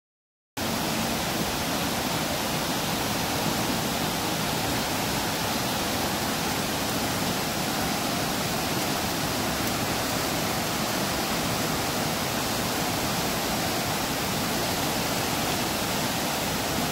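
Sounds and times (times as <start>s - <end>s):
water rushing over rocks: 0.6s - 16.9s.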